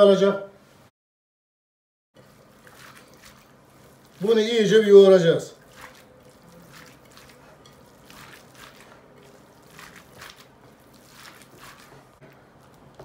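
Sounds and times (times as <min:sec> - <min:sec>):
wet squelching of food kneaded: 0:02.2 - 0:13.0.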